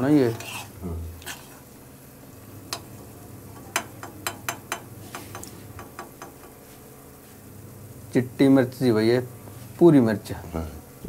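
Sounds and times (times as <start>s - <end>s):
faint sizzle in a pan: 0.0s - 11.0s.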